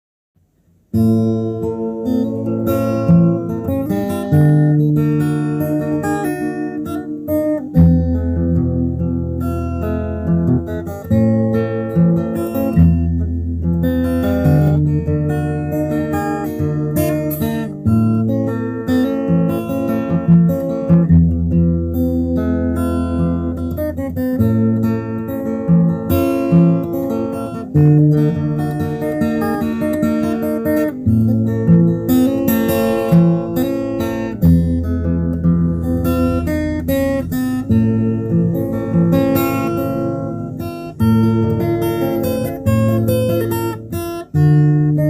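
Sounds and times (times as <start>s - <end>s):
acoustic guitar strumming: 0.4s - 45.0s.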